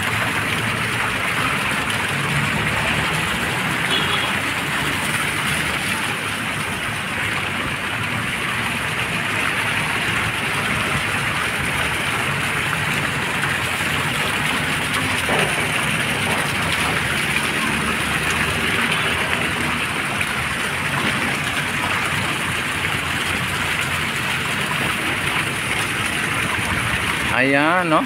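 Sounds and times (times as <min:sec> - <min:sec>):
fountain jets splashing into pool: 0:00.0 - 0:28.0.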